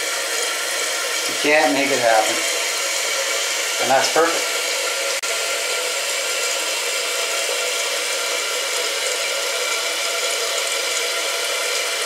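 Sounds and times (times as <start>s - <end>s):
water hissing into toilet tank: 0.0s - 12.0s.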